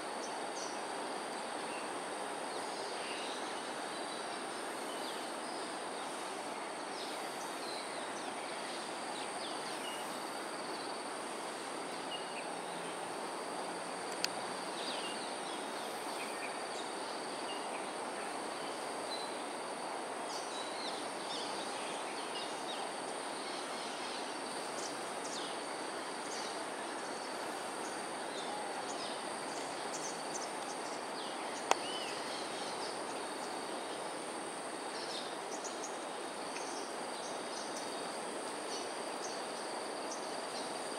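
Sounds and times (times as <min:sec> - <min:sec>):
high insect drone: 0:00.0 - 0:40.9
steady background hiss: 0:00.0 - 0:40.9.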